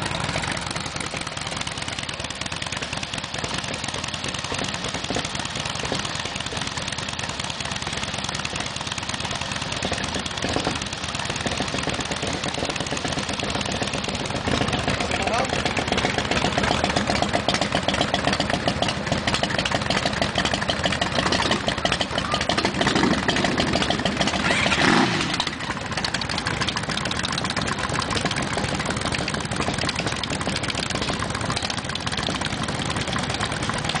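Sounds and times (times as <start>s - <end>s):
motorcycle engines running: 0.0s - 34.0s
motorcycle revving and riding off: 0.0s - 34.0s.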